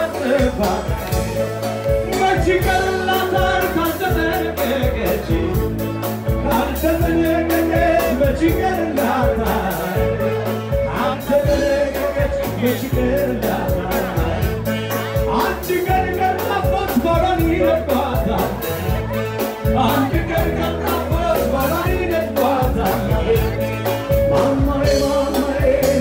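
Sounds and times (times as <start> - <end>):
live band playing pop music: 0.0 - 26.0
man singing: 0.0 - 26.0.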